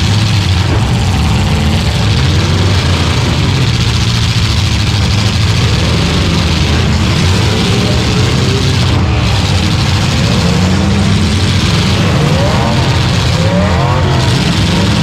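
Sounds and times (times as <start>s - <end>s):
car engine revving loud: 0.0s - 15.0s.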